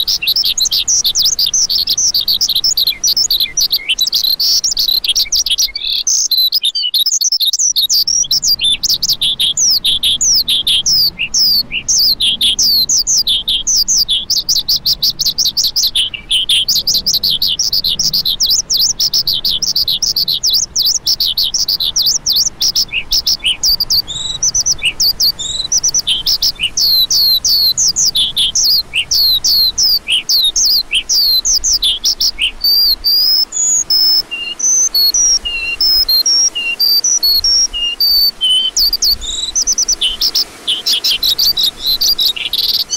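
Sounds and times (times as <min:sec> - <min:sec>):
lark singing: 0:00.0 - 0:42.9.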